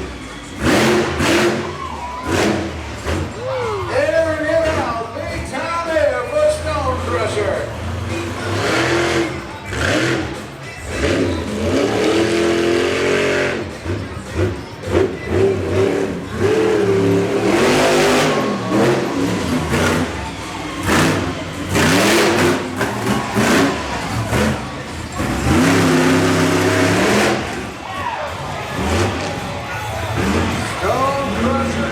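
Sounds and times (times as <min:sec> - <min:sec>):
truck engine revving hard: 0:00.0 - 0:31.9.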